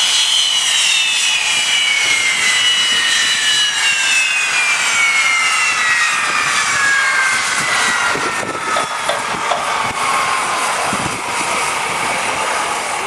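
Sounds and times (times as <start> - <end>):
jet engines spooling down: 0.0 - 13.0.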